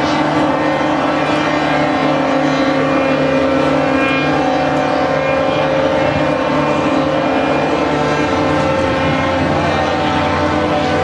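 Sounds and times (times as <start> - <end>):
ships' horns blasting: 0.0 - 11.0.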